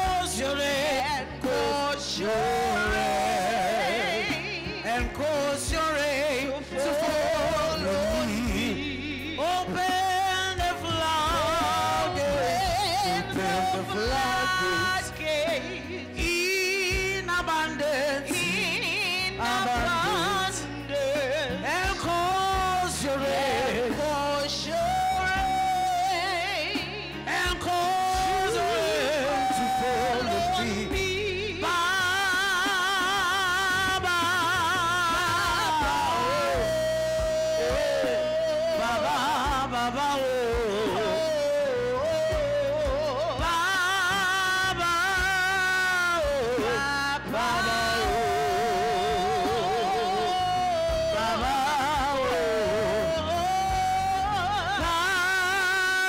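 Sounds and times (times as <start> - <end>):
backing music: 0.0 - 56.0
woman singing through microphone: 0.0 - 56.0.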